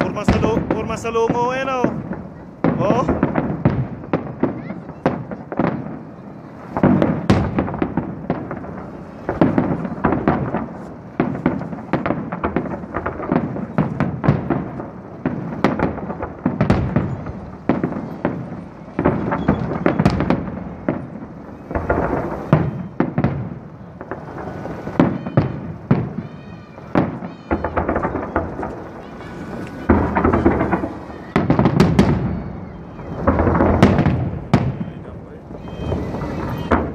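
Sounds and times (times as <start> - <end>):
fireworks bursting: 0.0 - 36.9.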